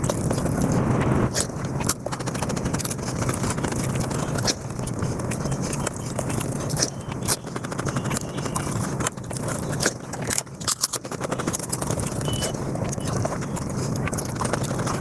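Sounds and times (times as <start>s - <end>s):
sharp food crackles: 0.0s - 15.0s
wet chewing and mouth smacking: 0.0s - 15.0s.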